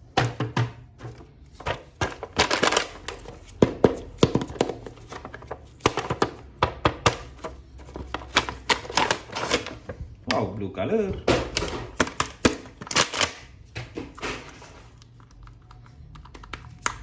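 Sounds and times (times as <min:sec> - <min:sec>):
hands handling plastic packaging: 0:00.0 - 0:10.1, 0:11.3 - 0:17.0.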